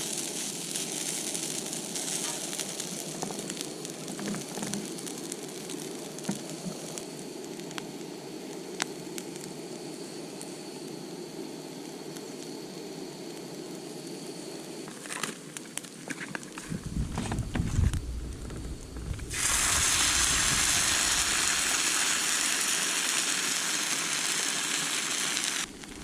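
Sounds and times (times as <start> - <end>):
sizzling hiss with crackles: 0.0 - 26.0.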